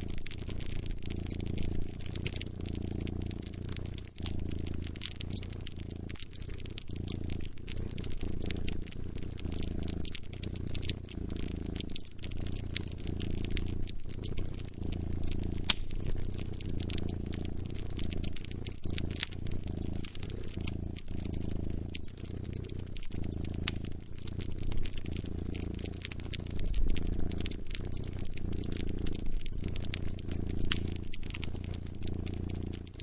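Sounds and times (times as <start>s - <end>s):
cat purring: 0.0s - 33.0s
wood fire crackling: 0.0s - 33.0s.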